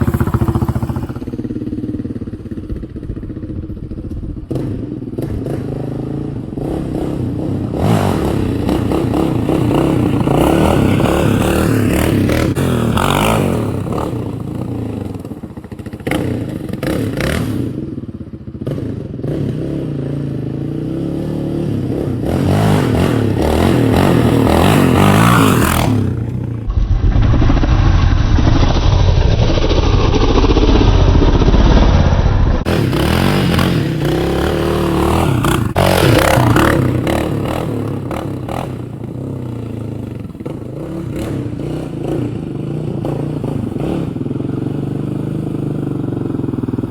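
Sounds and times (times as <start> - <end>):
quad engine revving: 0.0 - 2.2, 4.5 - 46.9.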